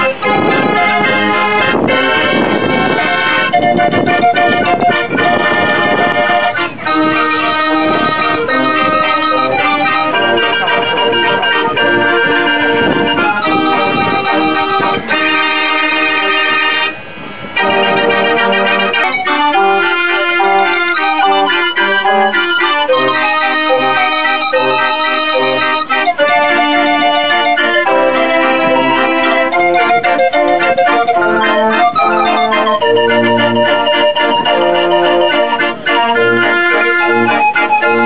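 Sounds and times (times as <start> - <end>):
pipe organ playing lively tune: 0.0 - 38.0.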